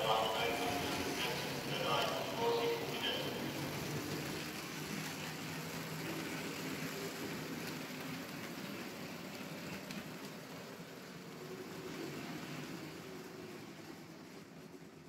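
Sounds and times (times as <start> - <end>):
locomotive motor hum: 0.0 - 14.9
model train wheels rattling on rails: 0.0 - 15.0.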